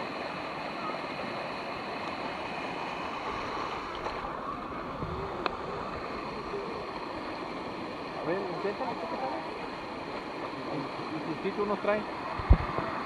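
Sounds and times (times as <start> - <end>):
water rushing over ledges: 0.0 - 13.0.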